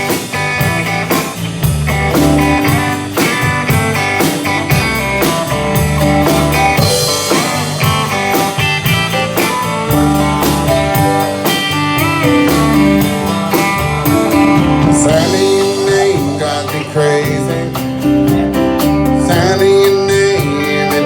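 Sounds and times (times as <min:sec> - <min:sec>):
bent electric guitar note: 0:00.0 - 0:17.1
country-rock band playing: 0:00.0 - 0:21.0.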